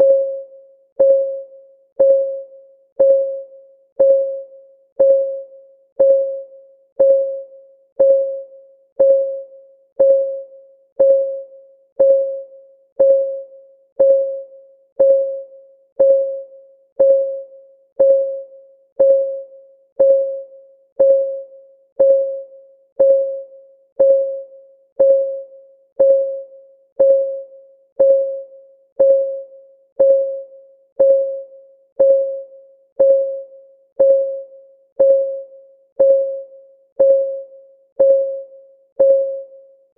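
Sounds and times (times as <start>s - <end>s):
clock ticking with ringing tone: 0.0s - 39.9s.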